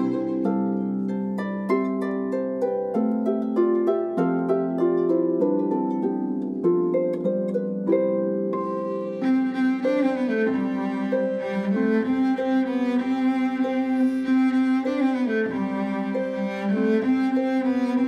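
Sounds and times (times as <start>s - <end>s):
bowed strings holding notes: 0.0s - 18.0s
plucked harp notes: 0.0s - 18.0s.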